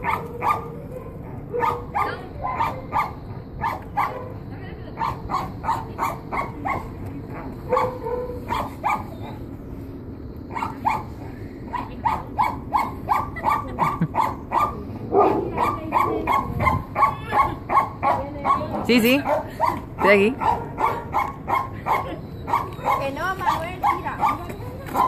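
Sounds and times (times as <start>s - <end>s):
dog barking: 0.0s - 4.4s, 5.0s - 9.4s, 10.5s - 11.1s, 11.7s - 25.0s.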